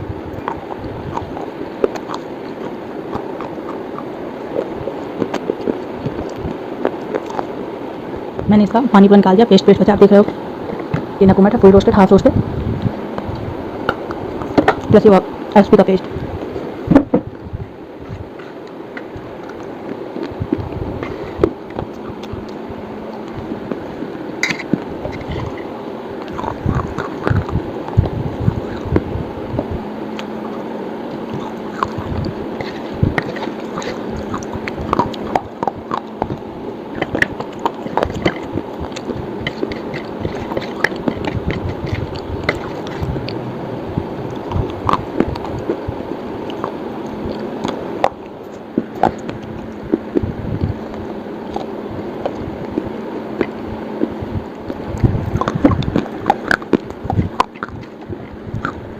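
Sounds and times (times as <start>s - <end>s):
steady low hum: 0.0s - 58.9s
crisp crunching and chewing: 0.3s - 8.4s, 18.0s - 58.9s.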